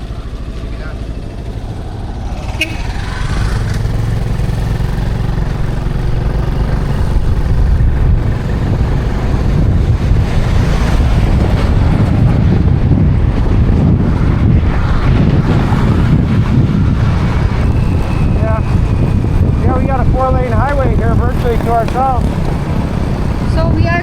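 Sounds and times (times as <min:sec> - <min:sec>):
motorcycle engine hum: 0:00.0 - 0:24.0
wind buffeting microphone: 0:00.0 - 0:24.0.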